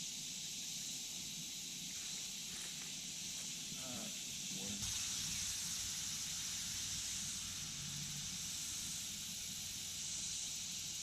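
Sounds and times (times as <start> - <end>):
constant high hiss: 0.0 - 11.0.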